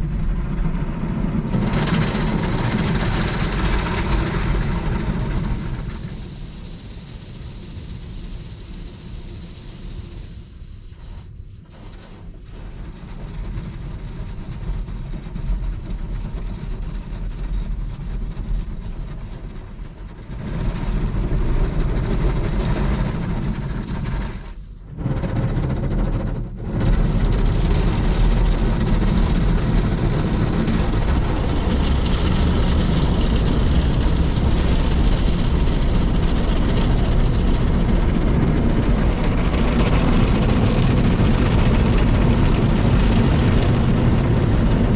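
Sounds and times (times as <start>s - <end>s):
car wash machine rumbling: 0.0s - 44.9s.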